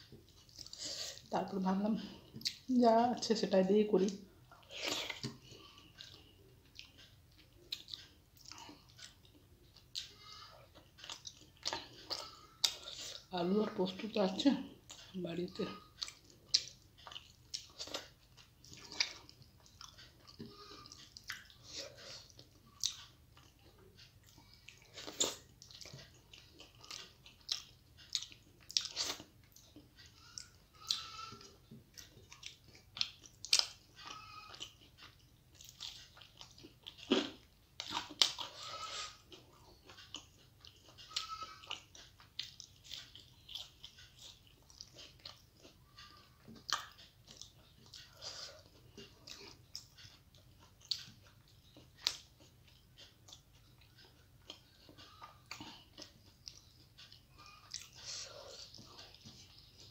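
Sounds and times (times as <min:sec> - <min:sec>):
person chewing and lip-smacking: 0:00.0 - 0:01.3, 0:02.0 - 0:02.7, 0:04.0 - 0:13.3, 0:14.7 - 0:59.9.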